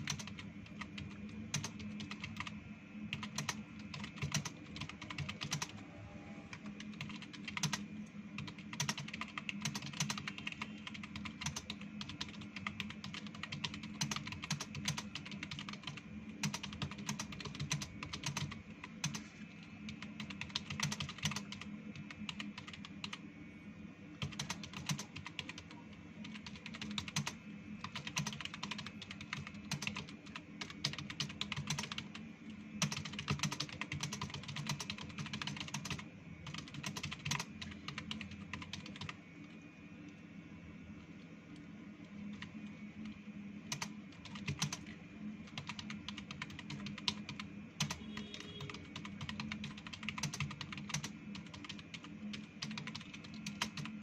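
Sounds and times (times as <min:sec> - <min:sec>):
fast typing on keyboard: 0:00.0 - 0:02.5, 0:03.1 - 0:05.8, 0:06.6 - 0:23.2, 0:24.2 - 0:32.2, 0:32.8 - 0:39.2, 0:42.2 - 0:54.0.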